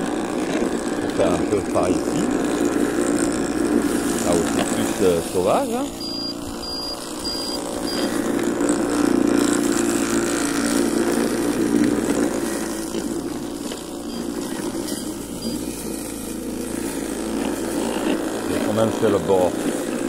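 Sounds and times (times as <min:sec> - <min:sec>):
electric mower motor humming: 0:00.0 - 0:20.0.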